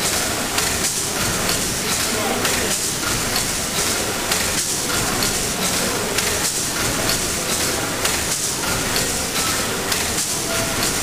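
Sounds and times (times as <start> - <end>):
rhythmic hiss of steam: 0.0 - 11.0
steam engine clattering: 0.0 - 11.0.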